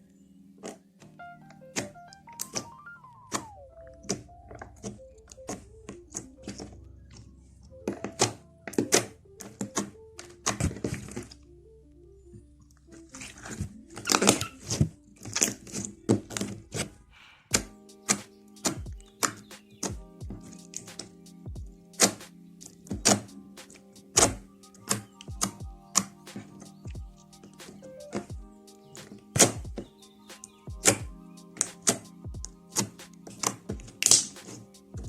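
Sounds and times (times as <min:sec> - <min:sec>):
soft background music: 0:00.0 - 0:35.0.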